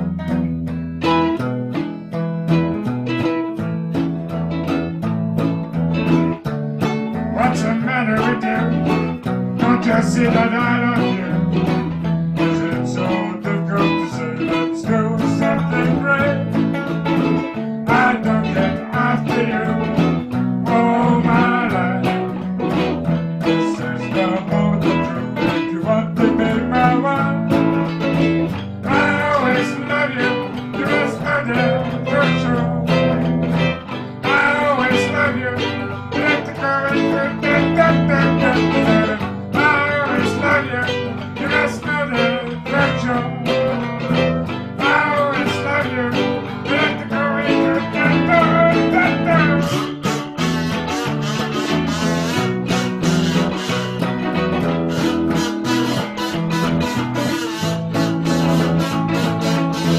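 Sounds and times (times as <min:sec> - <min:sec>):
blues guitar playing: 0:00.0 - 0:59.9
person singing: 0:07.1 - 0:59.9.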